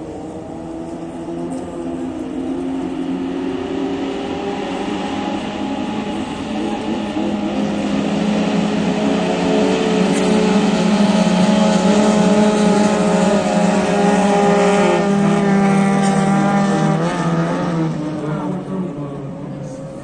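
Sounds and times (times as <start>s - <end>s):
racing boat engines running: 0.0s - 20.0s.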